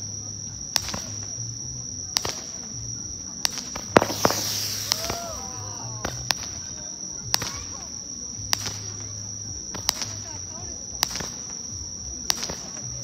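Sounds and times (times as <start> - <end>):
small fireworks cracking: 0.0 - 13.0
steady high-pitched tone: 0.0 - 13.0.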